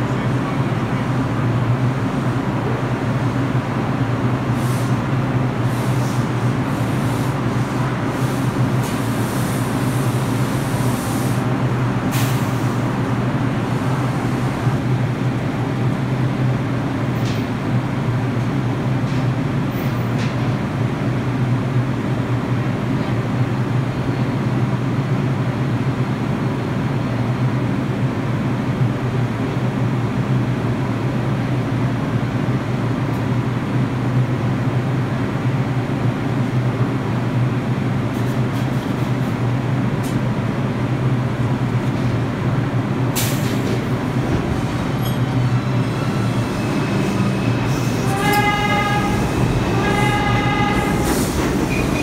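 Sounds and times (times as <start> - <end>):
subway train equipment humming: 0.0 - 52.0.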